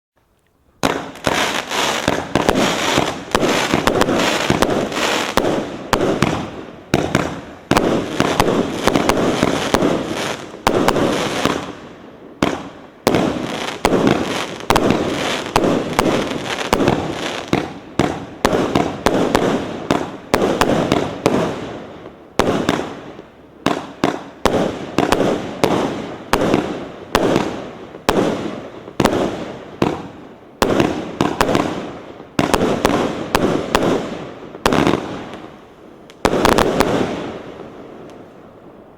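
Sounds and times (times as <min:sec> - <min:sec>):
fireworks bursting and crackling: 0:00.8 - 0:38.9.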